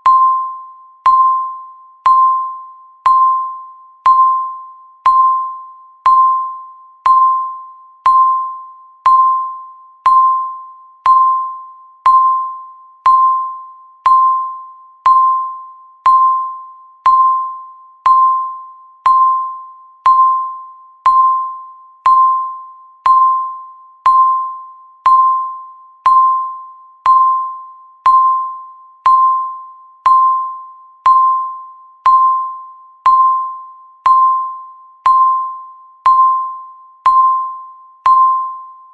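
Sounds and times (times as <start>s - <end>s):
countdown timer beeping: 0.0s - 38.9s.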